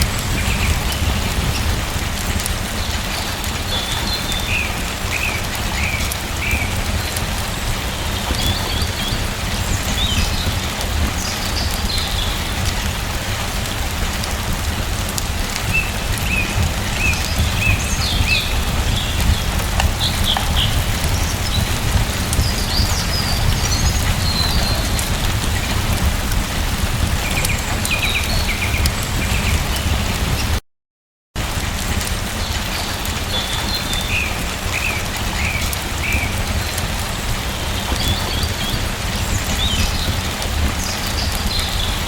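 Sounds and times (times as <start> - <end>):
steady rain: 0.0 - 30.6, 31.4 - 42.0.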